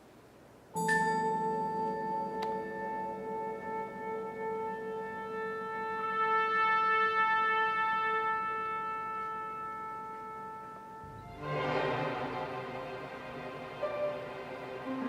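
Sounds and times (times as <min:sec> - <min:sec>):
orchestral held chord: 0:00.8 - 0:15.0.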